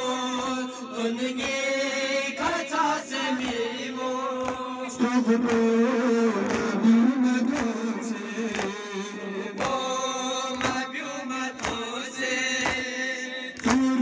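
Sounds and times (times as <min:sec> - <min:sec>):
men chanting together: 0:00.0 - 0:14.0
rhythmic chest-beating slaps: 0:00.0 - 0:14.0.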